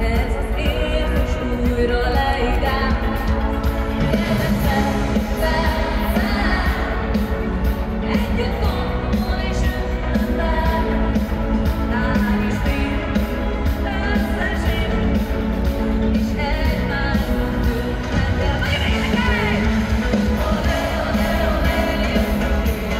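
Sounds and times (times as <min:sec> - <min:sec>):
live band with drum beat: 0:00.0 - 0:22.9
woman singing lead: 0:00.0 - 0:22.9.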